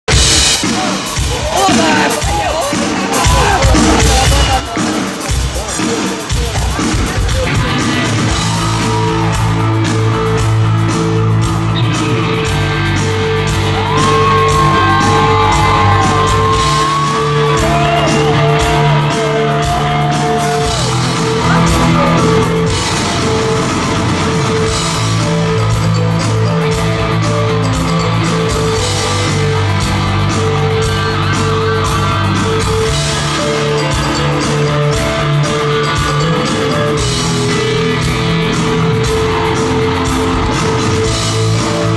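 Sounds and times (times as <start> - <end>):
bass guitar: 0.0 - 41.9
drums keeping a steady beat: 0.0 - 41.9
guitars: 0.1 - 41.9
bending lead guitar line: 7.4 - 41.9.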